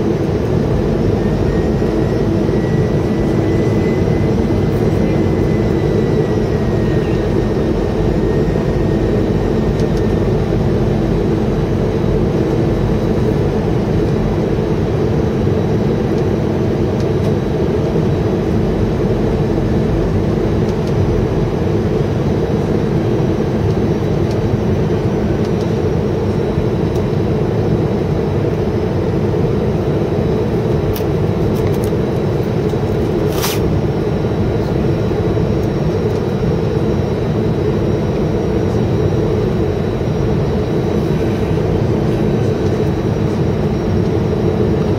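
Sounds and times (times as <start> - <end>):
airplane cabin engine noise: 0.0 - 44.9.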